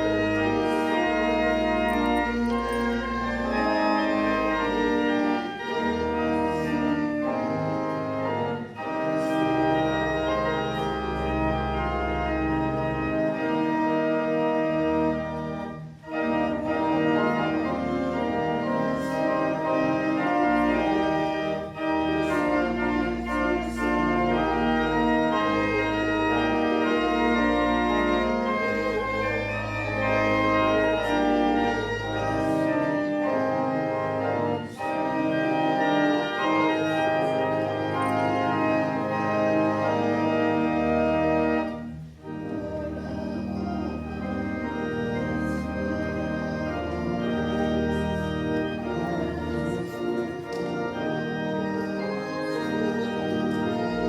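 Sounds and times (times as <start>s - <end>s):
church pipe organ playing hymn: 0.0s - 54.0s.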